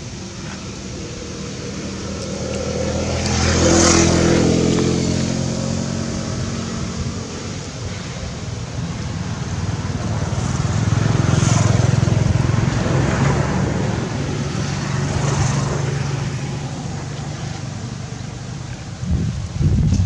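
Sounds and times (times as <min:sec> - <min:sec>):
vehicle engine running: 0:00.0 - 0:19.8.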